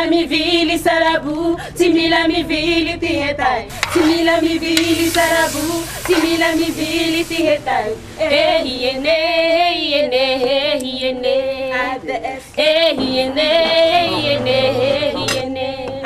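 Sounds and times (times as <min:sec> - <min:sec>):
women singing: 0:00.0 - 0:16.0.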